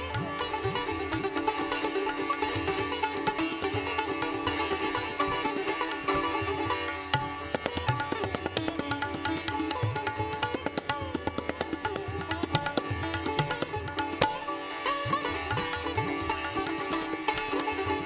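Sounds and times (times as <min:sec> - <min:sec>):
plucked string instrument: 0:00.0 - 0:18.0
rapid tabla strokes: 0:00.0 - 0:18.0.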